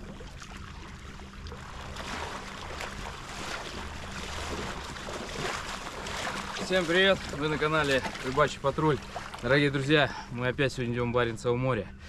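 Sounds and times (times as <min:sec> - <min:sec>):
water rushing: 0:00.0 - 0:10.1
motorboat engine running: 0:00.0 - 0:12.0
wind: 0:00.0 - 0:12.0.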